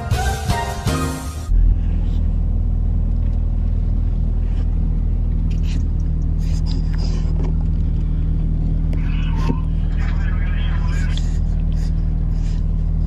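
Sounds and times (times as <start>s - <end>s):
road rumble inside car: 1.5s - 13.0s.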